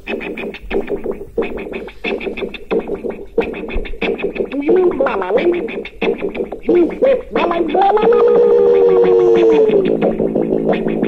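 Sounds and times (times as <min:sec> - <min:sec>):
stuttering synth-filtered song: 0:00.0 - 0:11.0.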